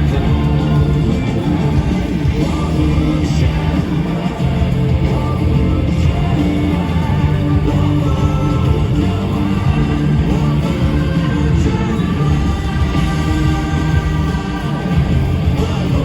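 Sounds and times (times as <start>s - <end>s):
electric guitars: 0.0s - 16.0s
live rock band playing: 0.0s - 16.0s.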